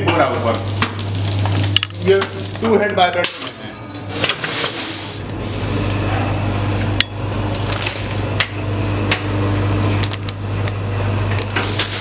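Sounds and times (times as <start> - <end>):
vibratory feeders humming: 0.0 - 12.0.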